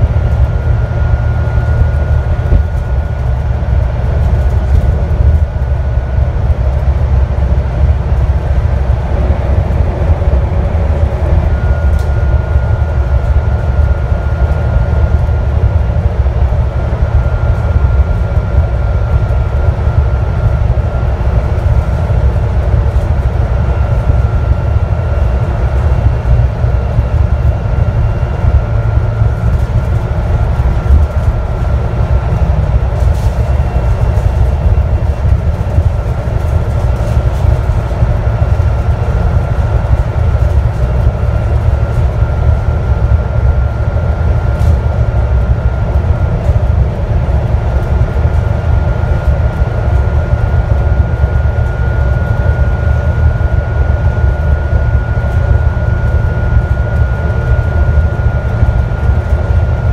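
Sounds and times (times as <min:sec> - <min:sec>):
bus engine and road rumble: 0:00.0 - 0:59.9
faint steady whine: 0:00.0 - 0:59.9.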